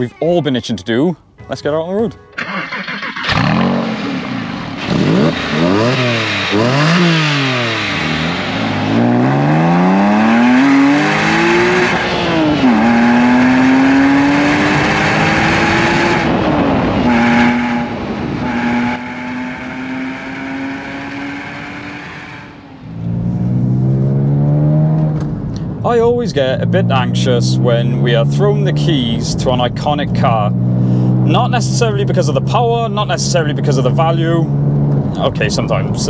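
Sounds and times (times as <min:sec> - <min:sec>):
car engine revving: 0:02.3 - 0:36.0.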